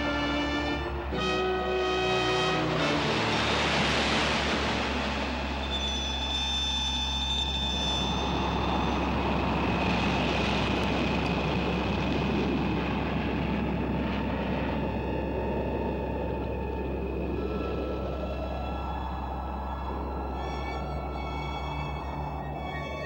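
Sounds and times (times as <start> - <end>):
low hum: 0.0 - 23.0
rushing drone: 0.0 - 23.0.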